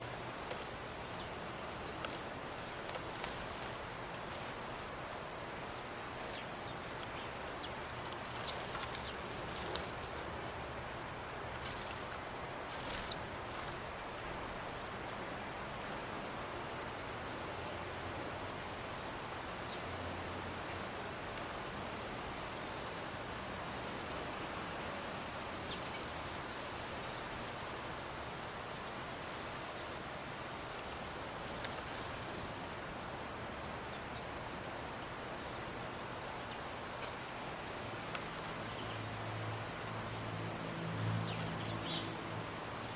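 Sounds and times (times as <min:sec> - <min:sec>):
small birds chirping: 0:00.0 - 0:42.9
steady outdoor background hiss: 0:00.0 - 0:42.9.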